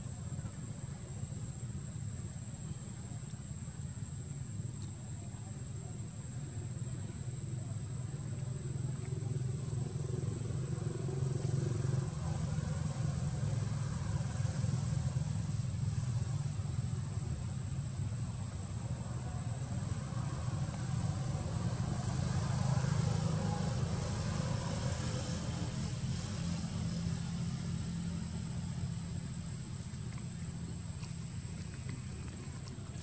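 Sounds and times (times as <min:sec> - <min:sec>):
vehicle engine running: 0:06.0 - 0:33.0.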